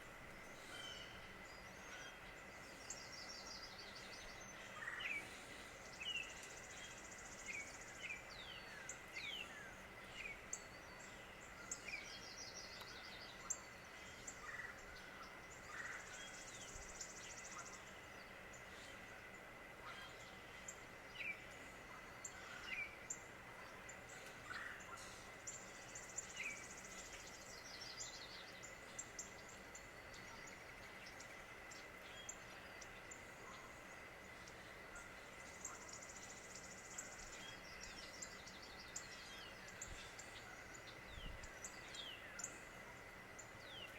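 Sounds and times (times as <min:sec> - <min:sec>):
birds chirping: 0:00.0 - 0:43.9
faint background hiss: 0:00.0 - 0:43.9
steady high-pitched whine: 0:00.0 - 0:43.9.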